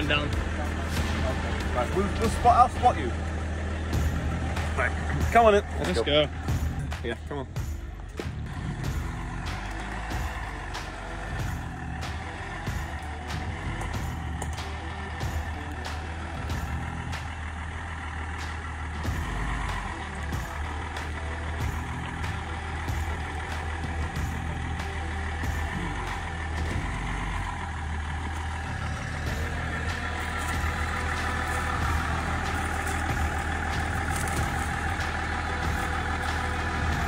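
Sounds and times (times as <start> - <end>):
vehicle engine running at low revs: 0.0 - 37.0.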